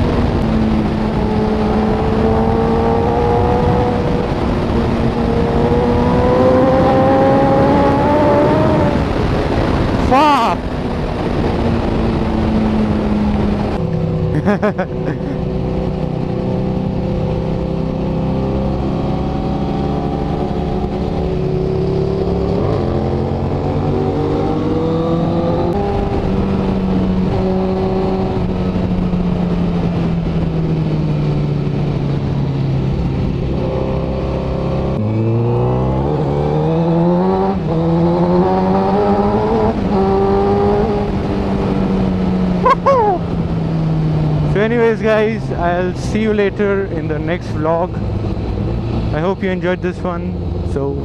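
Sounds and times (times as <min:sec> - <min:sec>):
motorcycle engine revving: 0:00.0 - 0:10.0, 0:11.0 - 0:51.0.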